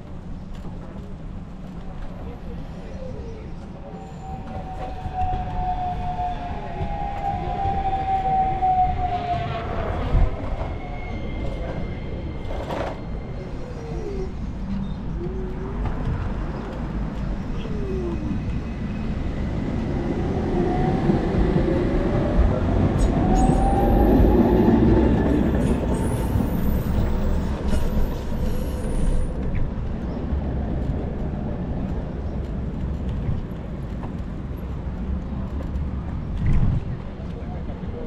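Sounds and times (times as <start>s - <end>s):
wind rumble on microphone: 0.0s - 10.9s, 12.4s - 38.0s.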